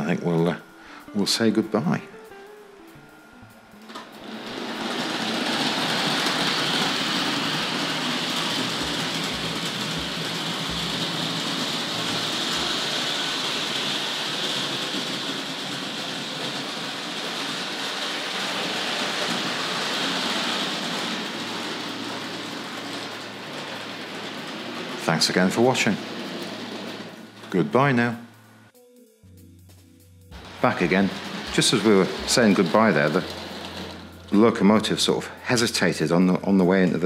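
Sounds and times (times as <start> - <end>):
model train whirring on metal track: 3.7 - 28.2, 30.4 - 37.0.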